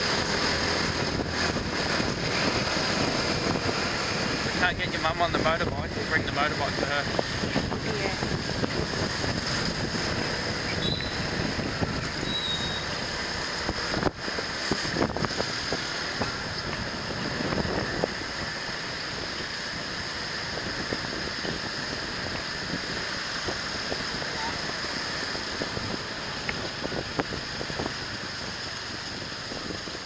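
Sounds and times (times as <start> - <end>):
scooter engine: 0.0 - 30.0
street traffic: 0.0 - 30.0
wind rushing over microphone: 0.0 - 30.0.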